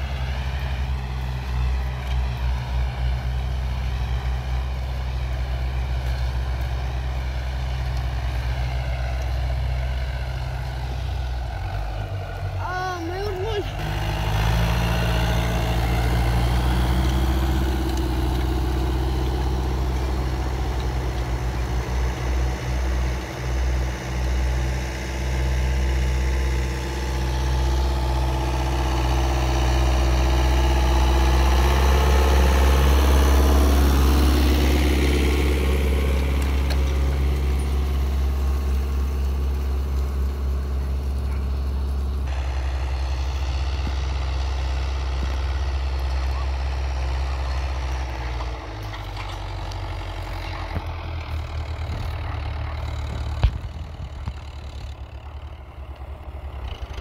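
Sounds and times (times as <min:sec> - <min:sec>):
tractor diesel engines running: 0:00.0 - 0:57.0.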